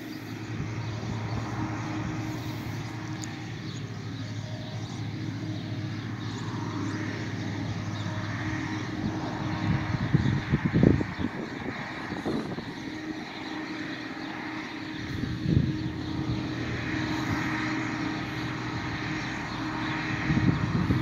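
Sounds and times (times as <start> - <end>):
tractor engines droning: 0.0 - 21.0.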